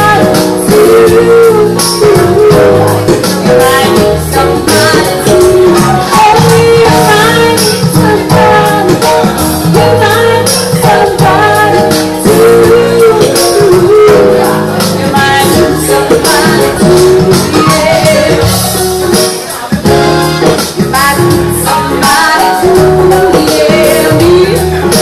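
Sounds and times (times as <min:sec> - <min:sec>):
woman singing: 0:00.0 - 0:19.8, 0:20.5 - 0:25.0
jazz band playing: 0:00.0 - 0:25.0.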